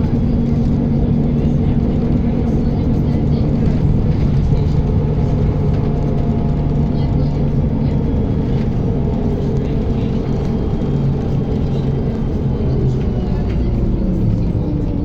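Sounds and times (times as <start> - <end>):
bus engine drone: 0.0 - 15.0
road rumble: 0.0 - 15.0.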